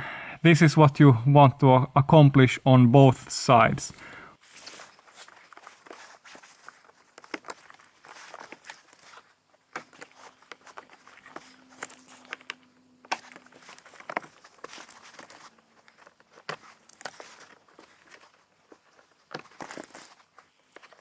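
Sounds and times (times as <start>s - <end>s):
gloved hands rustling: 3.6s - 21.0s.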